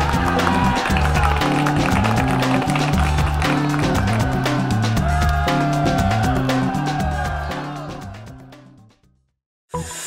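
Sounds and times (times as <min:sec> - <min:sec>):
upbeat music with bass and beat: 0:00.0 - 0:09.0.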